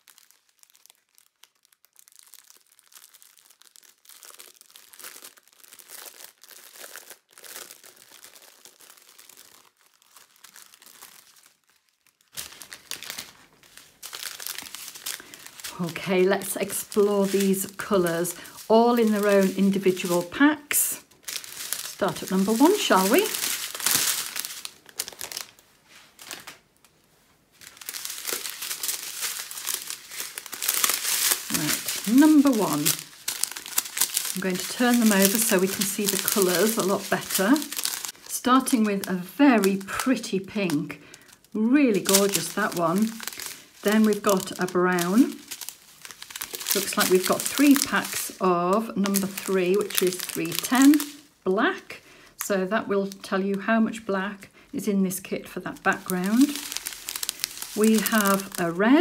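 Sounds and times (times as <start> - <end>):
plastic wrap crinkling: 0.0 - 59.0.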